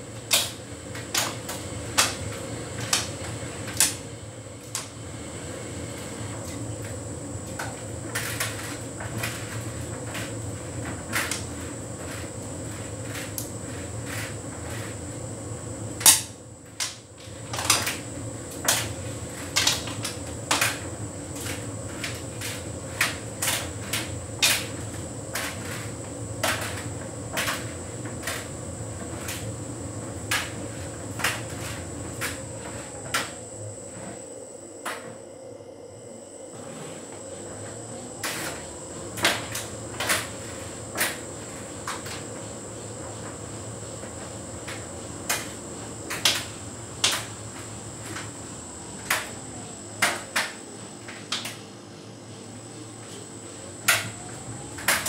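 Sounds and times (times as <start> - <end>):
tumble dryer humming: 0.0 - 55.0.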